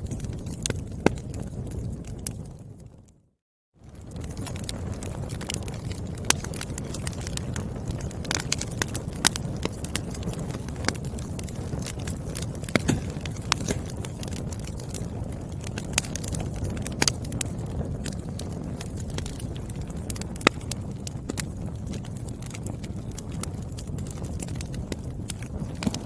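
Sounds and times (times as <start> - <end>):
wood fire crackling: 0.0 - 3.2, 3.8 - 26.0.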